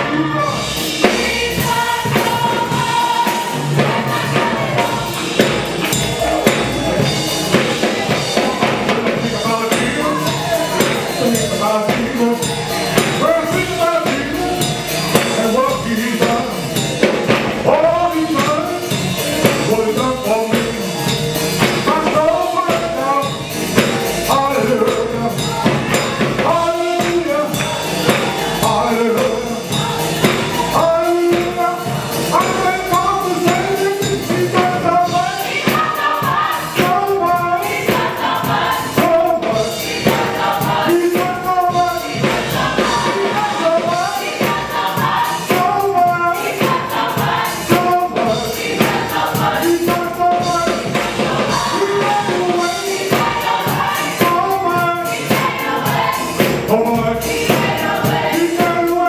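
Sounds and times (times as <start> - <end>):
gospel choir singing: 0.0 - 59.0
organ: 0.0 - 59.0
steady percussive beat: 0.0 - 59.0.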